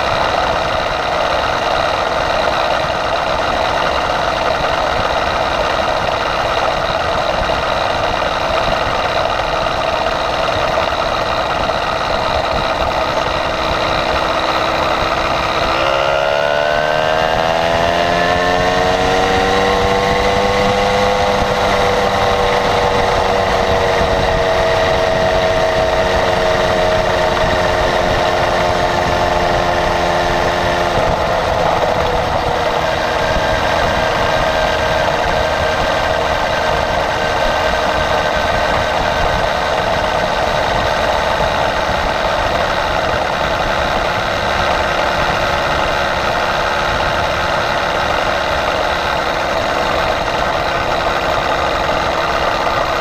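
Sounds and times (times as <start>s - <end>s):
small motorized bicycle engine: 0.0s - 53.0s.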